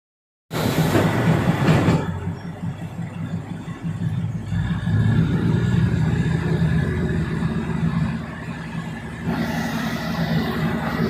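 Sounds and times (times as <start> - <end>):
train rumbling on track: 0.5 - 11.0.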